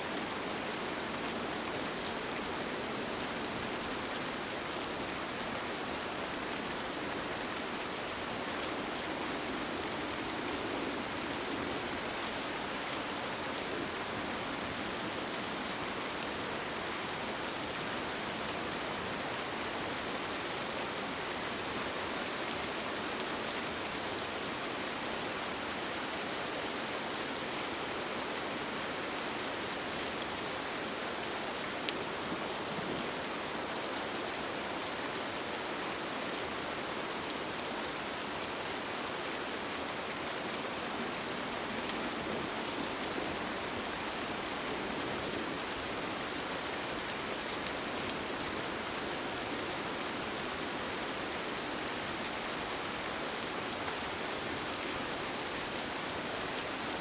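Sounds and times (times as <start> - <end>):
rain on a tent: 0.0 - 57.0.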